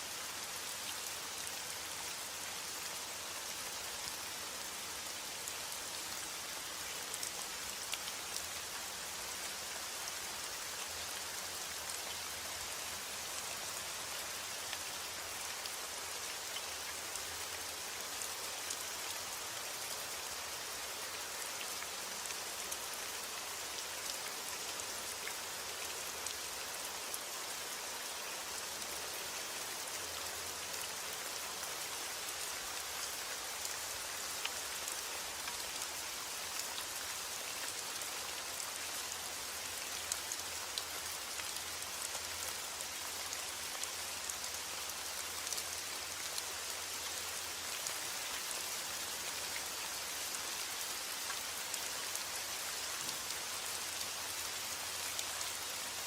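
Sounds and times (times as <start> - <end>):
heavy rain on forest: 0.0 - 56.0.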